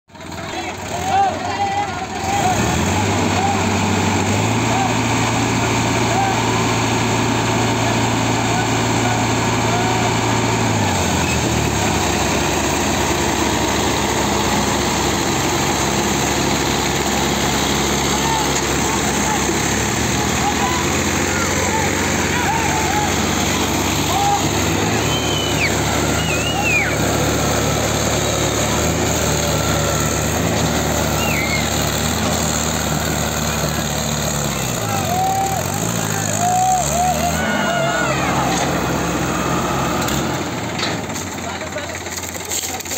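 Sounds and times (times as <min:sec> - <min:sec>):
tractor diesel engines under load: 0:00.1 - 0:42.9.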